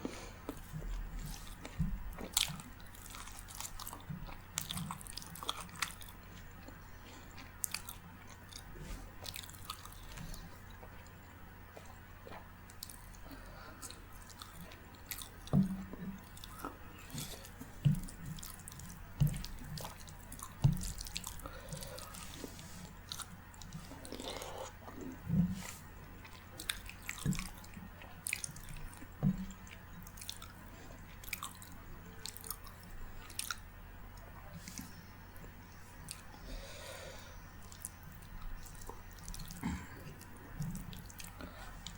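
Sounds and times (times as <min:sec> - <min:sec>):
close-miked chewing: 0:00.0 - 0:41.9.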